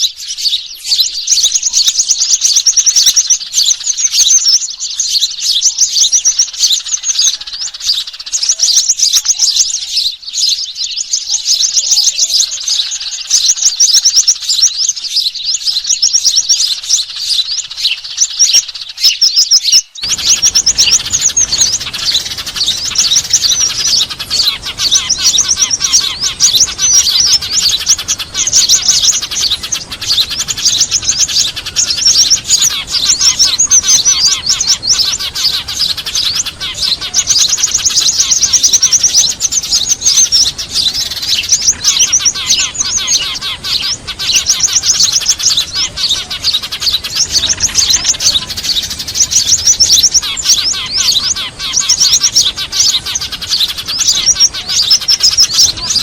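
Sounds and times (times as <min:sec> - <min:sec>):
lower bird chirps: 0:00.0 - 0:56.0
small birds chirping: 0:00.0 - 0:56.0.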